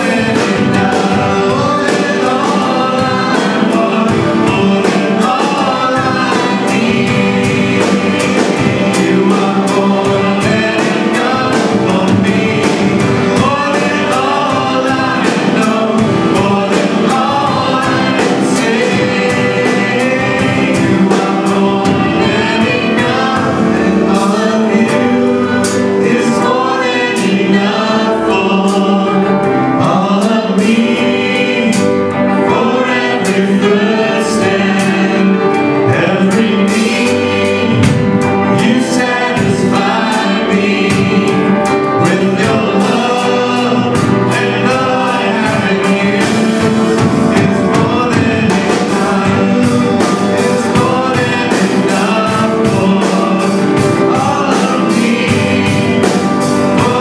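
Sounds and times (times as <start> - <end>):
drum kit with cymbal hits: 0.0 - 57.0
electric guitar: 0.0 - 57.0
keyboard: 0.0 - 57.0
people singing: 0.0 - 57.0.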